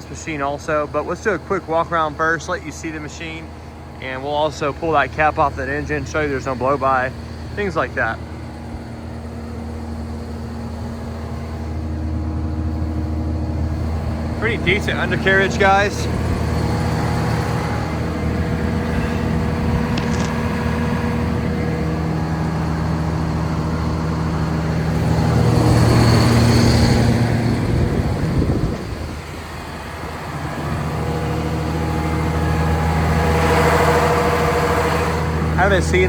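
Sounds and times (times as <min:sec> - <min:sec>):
excavator diesel engine idling: 0:00.0 - 0:36.0.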